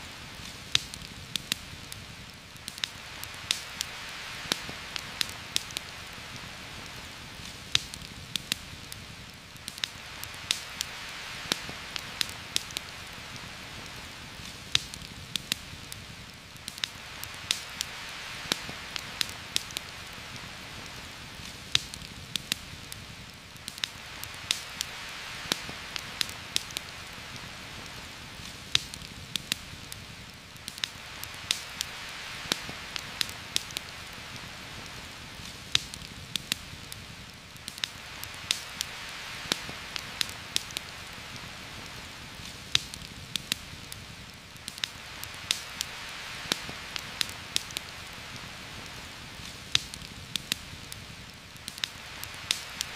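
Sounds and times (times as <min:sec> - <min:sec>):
campfire crackling and popping: 0:00.0 - 0:52.9
heavy rain on foliage: 0:00.0 - 0:52.9.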